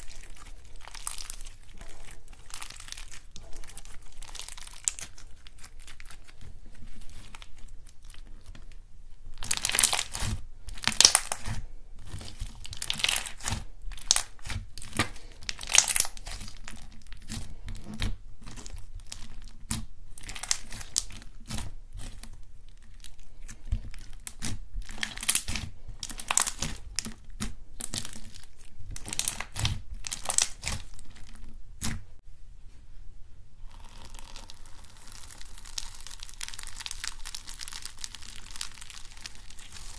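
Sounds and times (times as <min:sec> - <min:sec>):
faint slime crackle: 0:00.0 - 0:32.2, 0:33.6 - 0:39.9.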